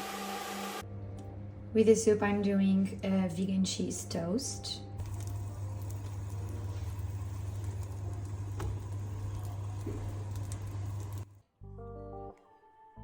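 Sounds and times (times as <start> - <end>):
low hum with hiss: 0.0 - 12.2
soft background music: 0.8 - 13.0.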